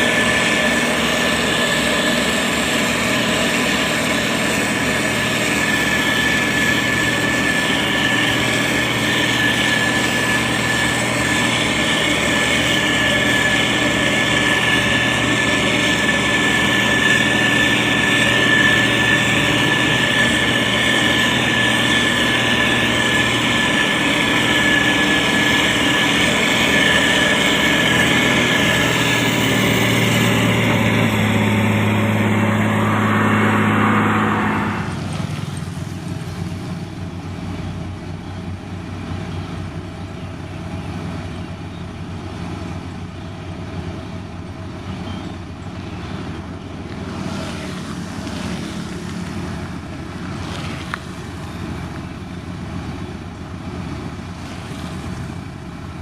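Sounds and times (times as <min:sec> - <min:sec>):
diesel engine whining: 0:00.0 - 0:56.0.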